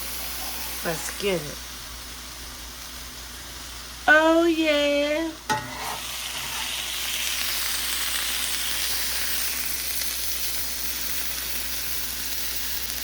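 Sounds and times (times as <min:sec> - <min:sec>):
chicken sizzling: 0:00.0 - 0:13.0.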